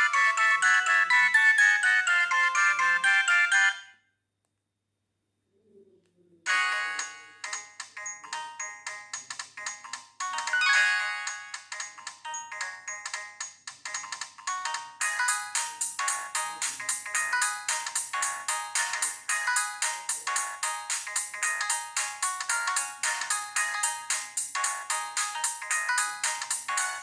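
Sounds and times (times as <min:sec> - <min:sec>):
polyphonic phone ringtone: 0:00.0 - 0:04.0, 0:06.5 - 0:27.0.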